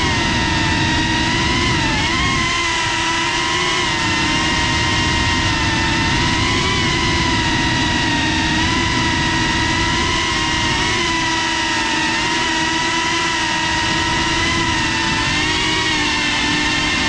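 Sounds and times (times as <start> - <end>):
drone propellers whining: 0.0 - 17.0
low rumbling noise: 0.0 - 17.0.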